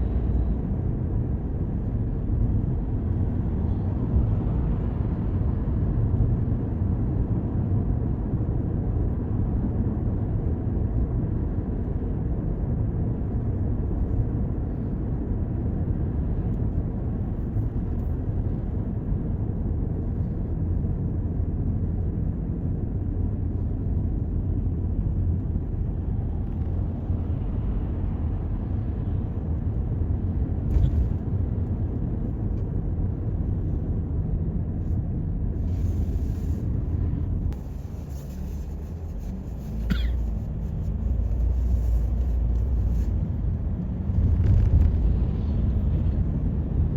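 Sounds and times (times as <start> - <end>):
car road and engine rumble: 0.0 - 46.9.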